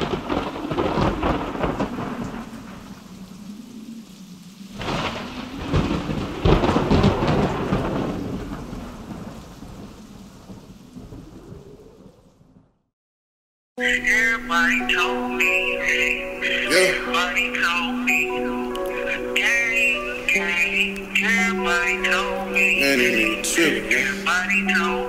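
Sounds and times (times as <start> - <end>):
steady rain: 0.0 - 12.7, 13.8 - 25.0
thunder rumbling: 0.0 - 12.9, 13.8 - 25.0.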